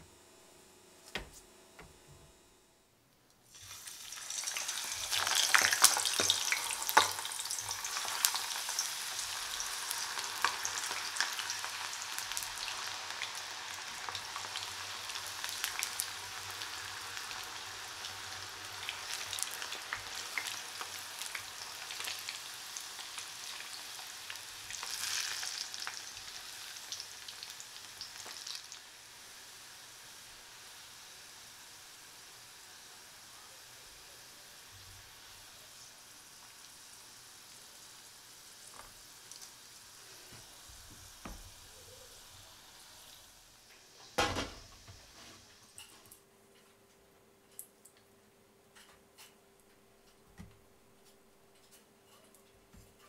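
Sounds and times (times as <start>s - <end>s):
food deep-frying in hot oil: 3.5s - 46.2s.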